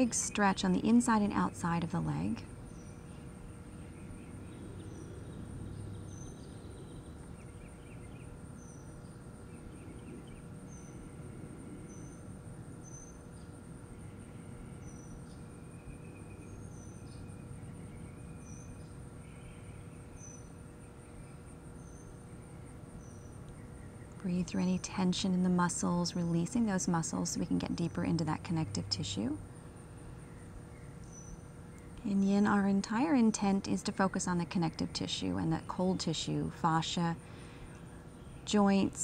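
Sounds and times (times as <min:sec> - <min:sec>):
low background rumble: 0:00.0 - 0:12.9, 0:19.1 - 0:39.0
insect drone: 0:00.0 - 0:39.0.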